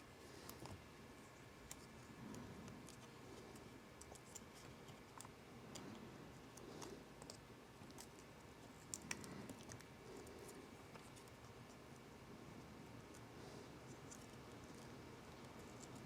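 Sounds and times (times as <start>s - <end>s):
small clicks and light scratches: 0.3s - 16.0s.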